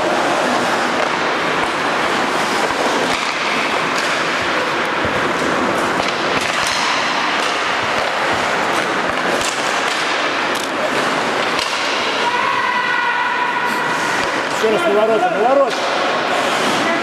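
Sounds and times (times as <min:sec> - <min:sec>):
hockey sticks and puck clicking: 0:00.0 - 0:12.3, 0:13.9 - 0:14.8, 0:15.7 - 0:16.9
skates carving ice: 0:00.0 - 0:17.0.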